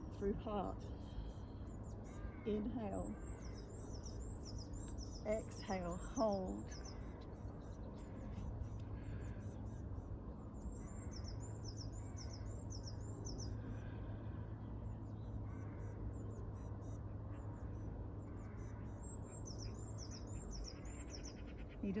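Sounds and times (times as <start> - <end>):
birds chirping: 0.0 - 22.0
faint lower bird calls: 0.0 - 22.0
low hum: 0.0 - 22.0.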